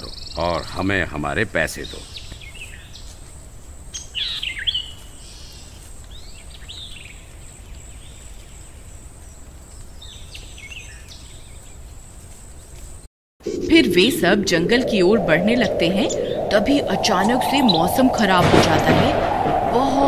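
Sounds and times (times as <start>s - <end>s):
birds chirping: 0.0s - 12.7s, 13.5s - 20.0s.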